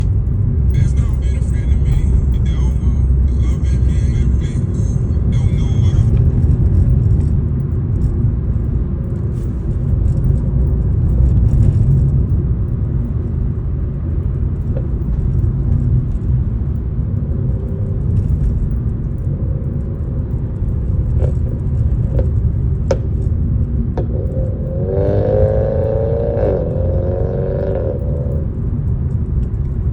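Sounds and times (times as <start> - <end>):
low rumble of vehicle: 0.0 - 29.9
sharp ticks: 0.0 - 29.9.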